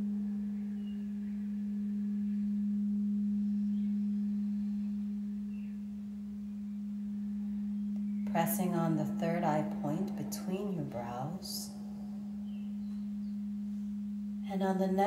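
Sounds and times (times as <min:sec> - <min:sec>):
crystal singing bowl humming: 0:00.0 - 0:15.0.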